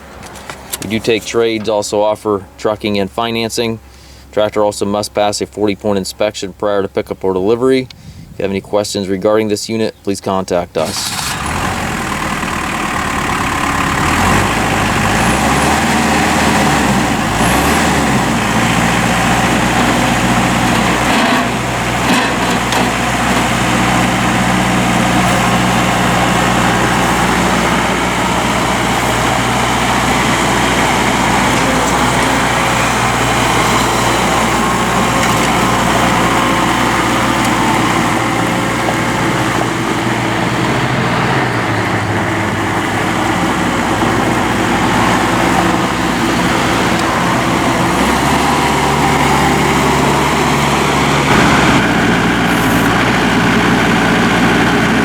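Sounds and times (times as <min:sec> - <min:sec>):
tractor diesel engine running: 0:00.0 - 0:09.3, 0:09.9 - 0:55.0.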